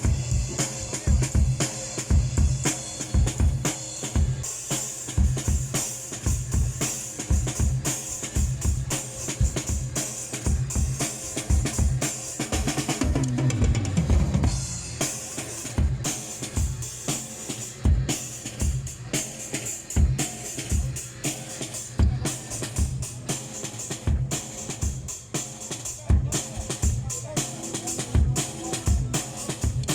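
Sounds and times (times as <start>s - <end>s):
cymbals: 0.0s - 29.9s.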